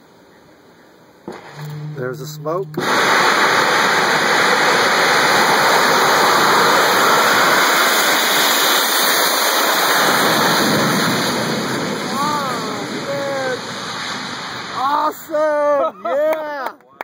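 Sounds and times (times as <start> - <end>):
rocket motor rushing roar: 1.3 - 15.2.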